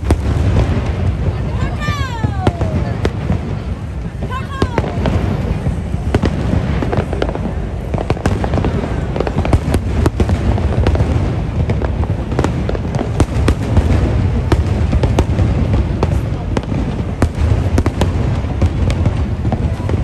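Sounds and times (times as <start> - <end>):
fireworks cracks and bangs: 0.0 - 20.0
fireworks shells rumbling: 0.0 - 20.0.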